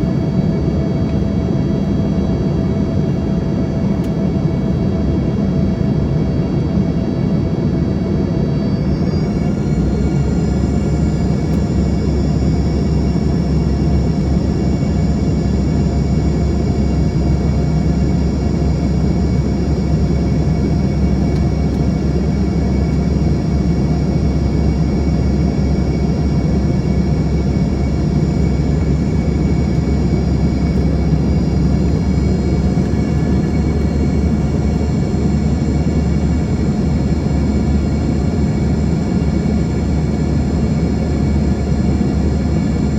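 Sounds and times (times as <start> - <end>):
jet engines droning in cabin: 0.0 - 42.9.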